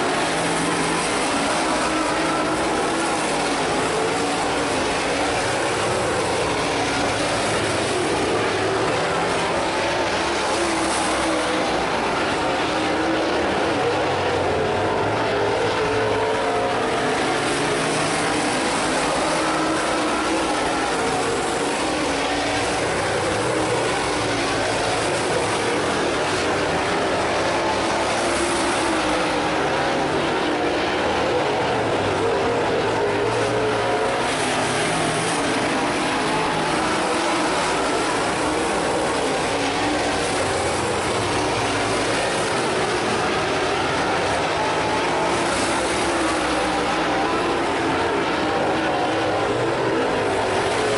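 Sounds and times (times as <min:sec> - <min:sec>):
race car engines running hard: 0:00.0 - 0:50.9.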